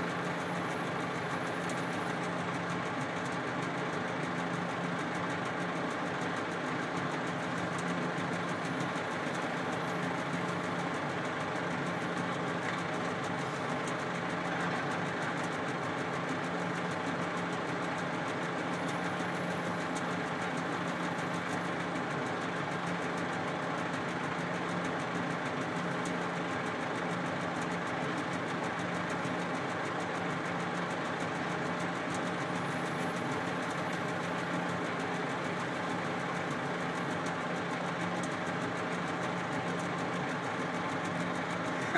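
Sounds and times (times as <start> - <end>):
diesel engine idling: 0.0 - 41.9.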